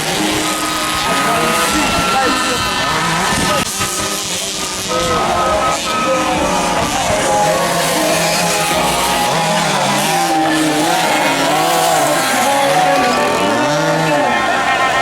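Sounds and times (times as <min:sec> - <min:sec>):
motorbike engines revving: 0:00.0 - 0:15.0.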